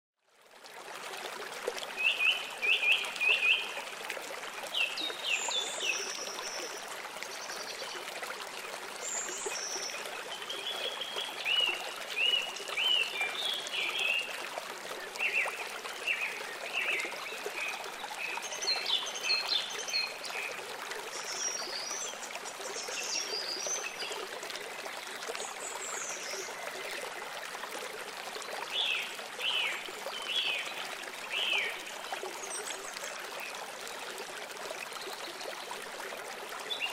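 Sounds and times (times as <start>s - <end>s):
stream trickling: 0.2s - 36.9s.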